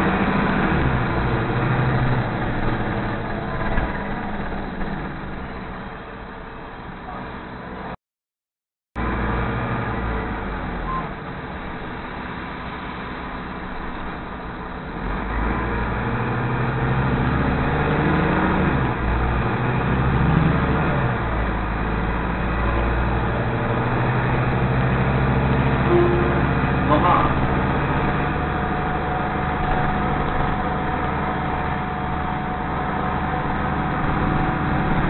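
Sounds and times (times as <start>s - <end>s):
bus engine accelerating: 0.0s - 8.0s, 9.0s - 35.0s
road noise inside bus: 0.0s - 8.0s, 9.0s - 35.0s.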